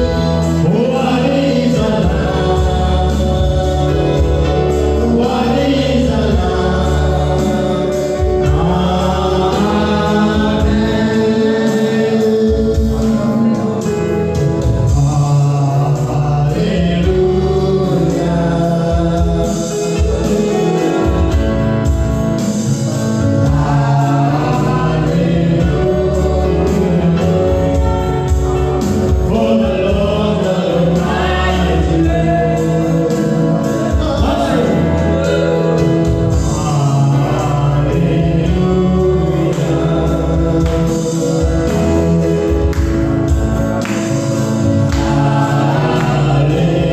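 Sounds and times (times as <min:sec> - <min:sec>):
choir singing gospel music: 0:00.0 - 0:46.9
steady bass line: 0:00.0 - 0:46.9.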